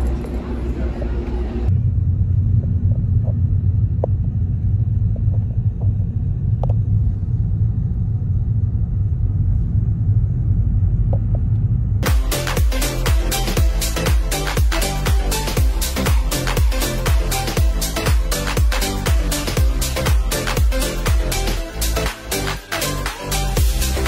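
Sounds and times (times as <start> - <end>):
loud low rumble: 0.0 - 24.0.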